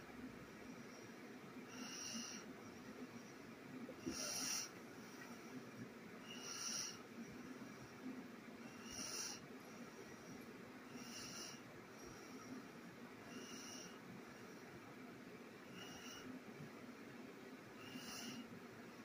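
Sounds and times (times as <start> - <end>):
soft breathing: 1.7 - 3.3, 3.9 - 15.0, 15.6 - 16.8, 17.8 - 19.0.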